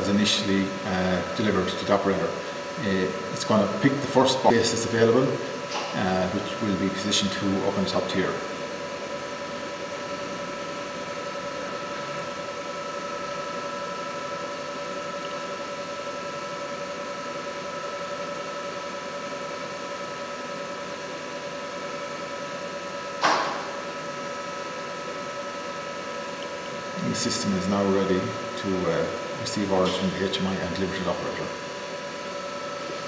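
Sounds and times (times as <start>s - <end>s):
robotic machinery hum and whine: 0.0s - 33.0s.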